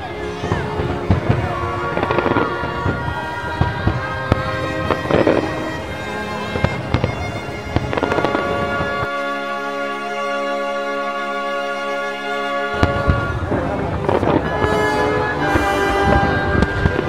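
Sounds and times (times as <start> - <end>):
fireworks bangs and crackles: 0.0 - 9.8, 12.5 - 17.0
music playing: 0.0 - 17.0.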